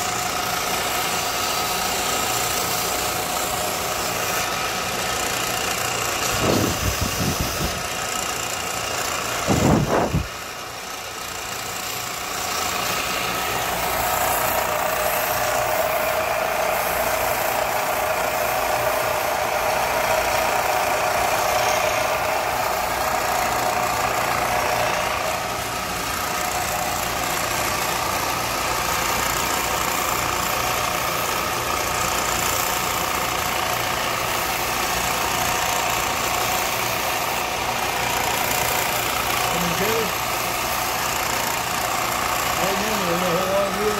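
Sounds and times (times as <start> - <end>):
power grinder motor grinding: 0.0 - 43.9.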